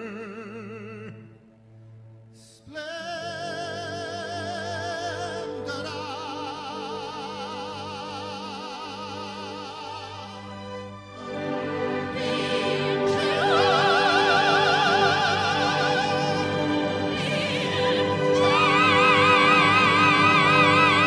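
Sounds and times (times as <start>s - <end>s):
man singing operatic notes: 0.0s - 1.4s, 2.4s - 10.6s, 13.0s - 21.0s
backing music: 0.0s - 21.0s.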